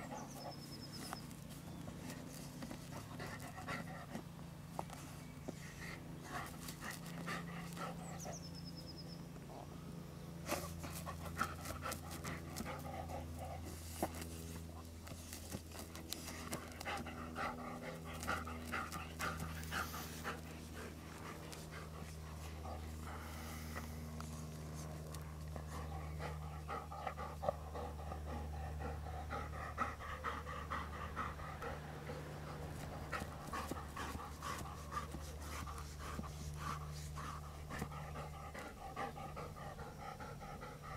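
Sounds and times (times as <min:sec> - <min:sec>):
dog panting: 0:00.0 - 0:08.6, 0:10.4 - 0:40.9
paws scratching soil: 0:00.0 - 0:40.9.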